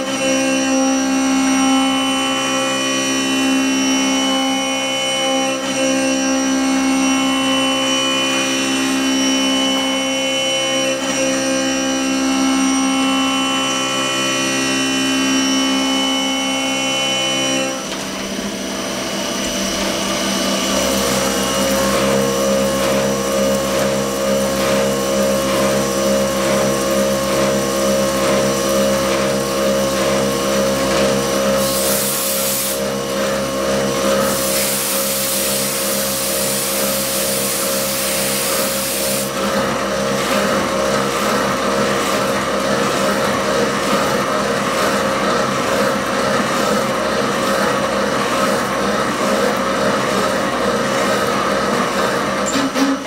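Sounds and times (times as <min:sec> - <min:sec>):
milling machine spindle whining: 0:00.0 - 0:53.0.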